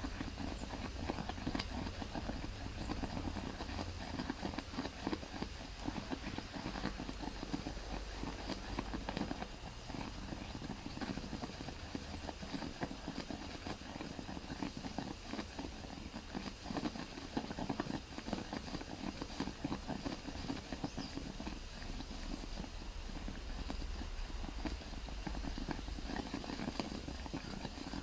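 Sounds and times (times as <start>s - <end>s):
acid boiling with small pops: 0.0s - 28.0s.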